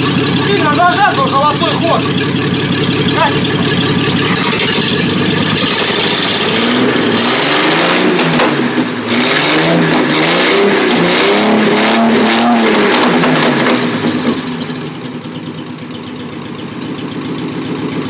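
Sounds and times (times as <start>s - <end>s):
car engine revving unevenly: 0.0s - 15.2s.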